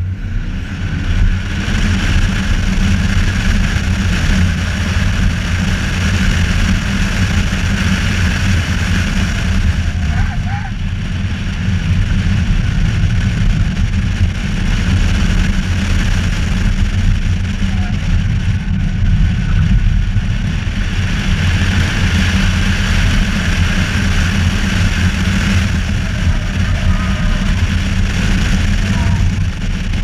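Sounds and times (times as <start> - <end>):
car engine and road noise: 0.0 - 30.0
wind rumble on microphone: 0.0 - 30.0.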